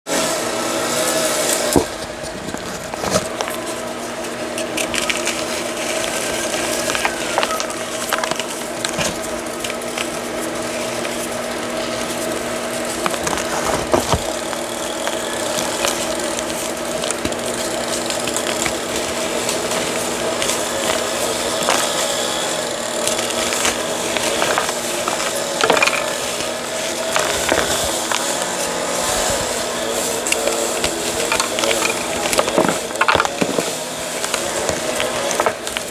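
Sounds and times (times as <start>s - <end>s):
steady background hum: 0.1s - 35.9s
chalk crunching and cracking: 0.9s - 35.9s.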